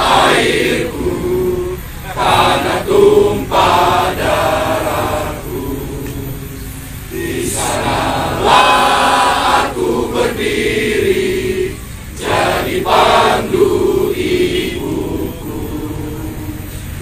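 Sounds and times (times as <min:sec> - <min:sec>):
crowd singing in unison: 0:00.0 - 0:17.0.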